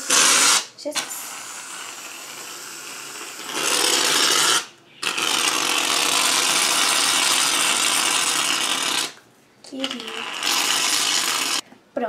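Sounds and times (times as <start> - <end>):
aerosol foam can spraying: 0.0 - 9.2, 10.2 - 11.6.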